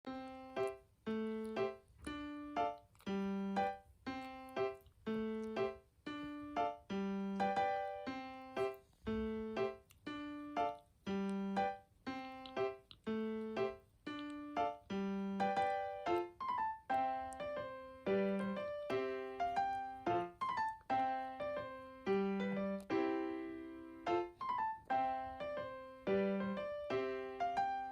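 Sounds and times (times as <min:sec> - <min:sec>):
gentle piano melody: 0:00.0 - 0:27.9.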